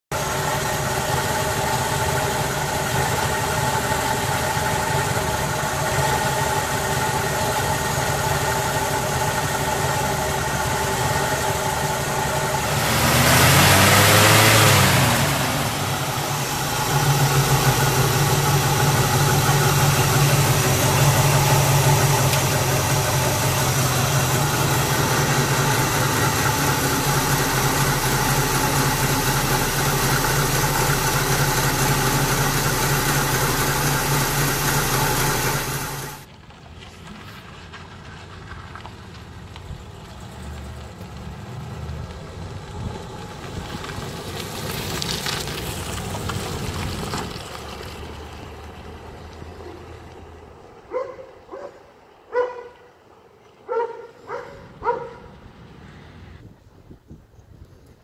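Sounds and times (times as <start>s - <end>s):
car engine idling and revving: 0.0s - 56.5s.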